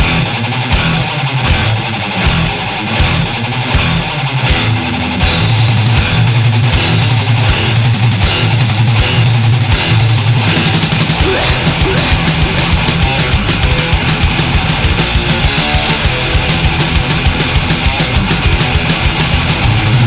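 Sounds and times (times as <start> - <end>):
distorted electric guitar riff: 0.0 - 20.0
heavy metal band playing: 0.0 - 20.0.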